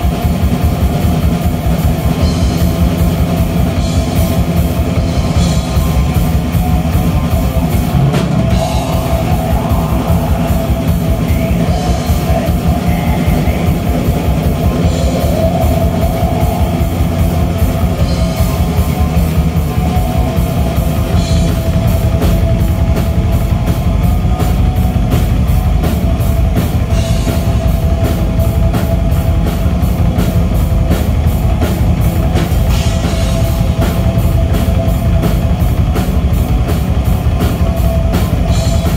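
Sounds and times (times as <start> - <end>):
distorted electric guitars: 0.0 - 38.9
fast drumming on drum kit: 0.0 - 38.9.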